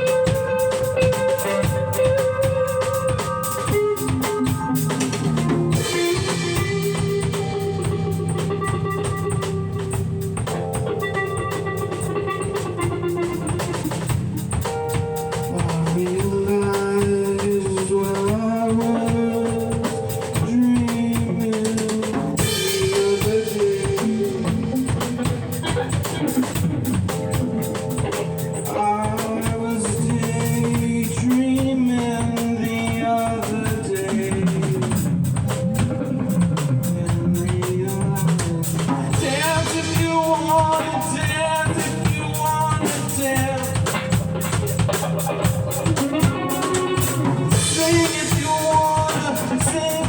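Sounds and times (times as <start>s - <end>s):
melody in held notes: 0.0s - 21.6s, 22.4s - 50.0s
drum kit playing: 0.0s - 50.0s.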